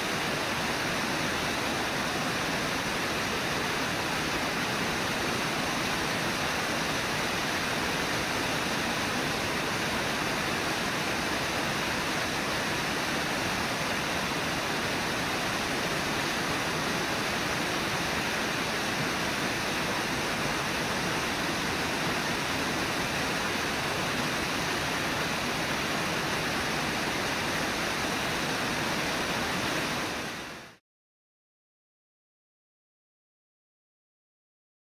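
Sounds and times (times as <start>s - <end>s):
river water rushing: 0.0s - 30.8s.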